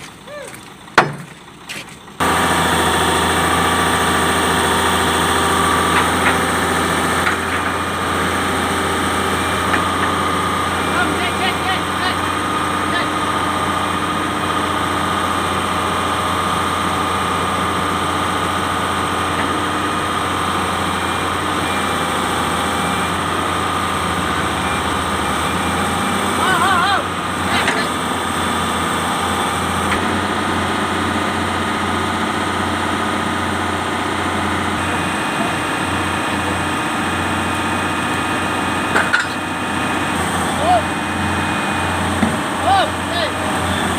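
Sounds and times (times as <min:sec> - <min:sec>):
excavator diesel engine idling: 0:00.0 - 0:43.9.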